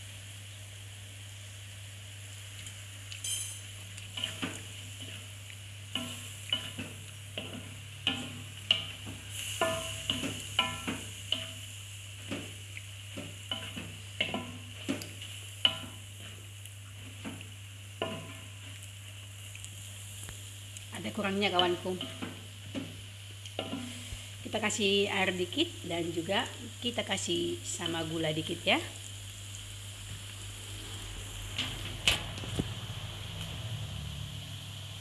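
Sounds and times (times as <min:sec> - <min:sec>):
food sizzling: 0:00.0 - 0:35.0.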